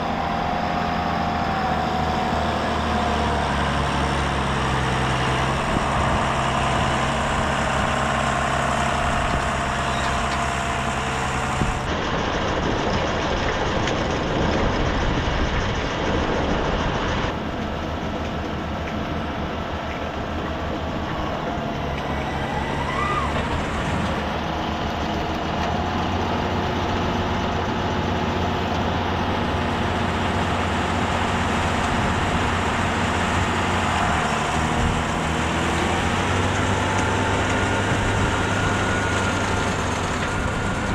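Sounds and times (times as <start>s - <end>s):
tractor diesel engines running: 0.0s - 40.9s.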